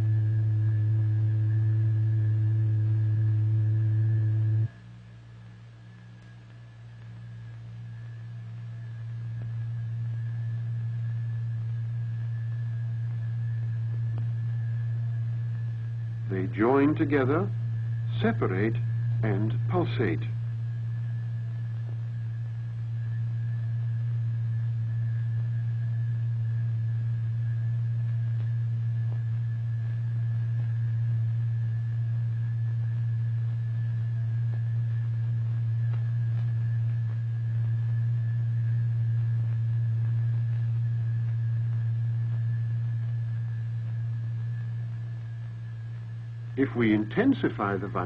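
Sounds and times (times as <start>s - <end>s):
low electronic sine tone: 0.0s - 48.0s.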